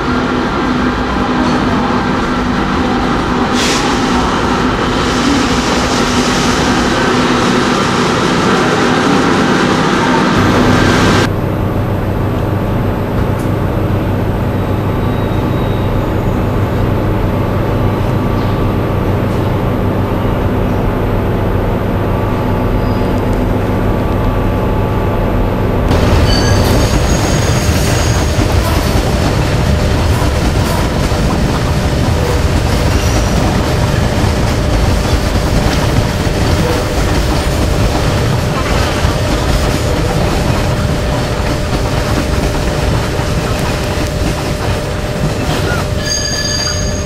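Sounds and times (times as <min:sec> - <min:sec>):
electric locomotive humming: 0:00.0 - 0:47.0
train coaches rolling past: 0:00.0 - 0:47.0.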